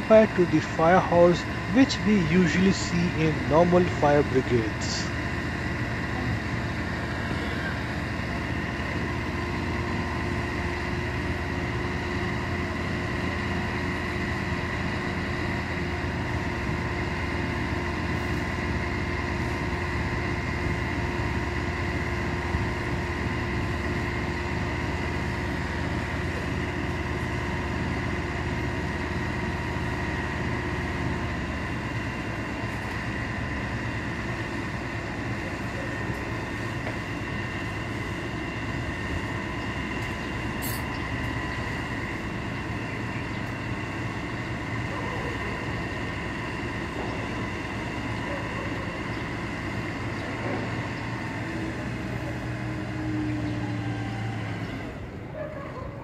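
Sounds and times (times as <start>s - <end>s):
fire engine engine droning: 0.0s - 56.0s.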